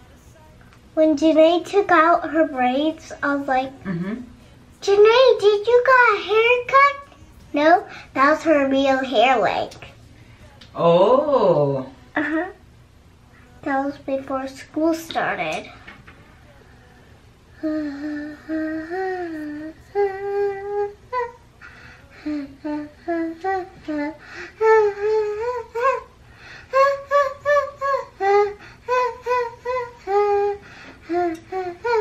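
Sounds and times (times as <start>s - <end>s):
girl singing wordless tune: 0.0s - 11.0s, 11.6s - 32.0s.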